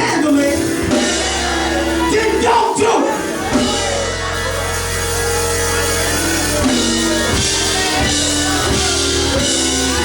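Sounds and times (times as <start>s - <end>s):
drums: 0.0s - 10.0s
held keyboard chords: 0.0s - 10.0s.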